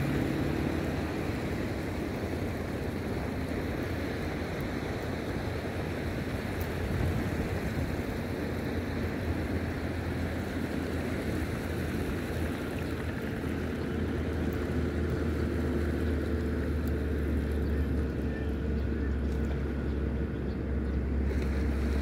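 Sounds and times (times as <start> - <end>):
wind and sea rumble: 0.0 - 22.0.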